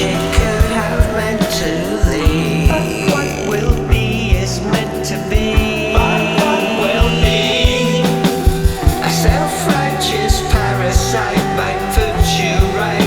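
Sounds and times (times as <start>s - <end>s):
person singing: 0.0s - 13.0s
rock music: 0.0s - 13.0s.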